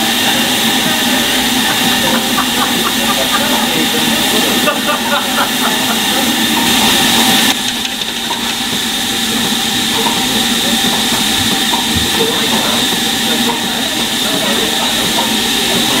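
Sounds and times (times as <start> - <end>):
steam hissing from locomotive: 0.0 - 16.0.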